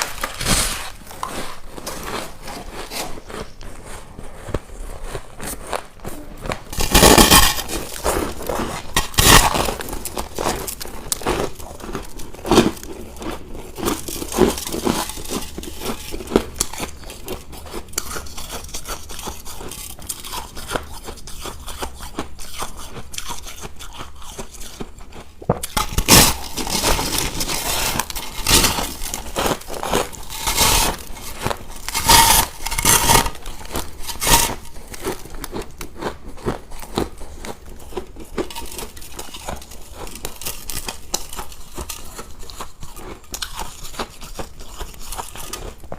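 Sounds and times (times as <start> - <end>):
ice crunching being chewed: 0.0 - 45.9.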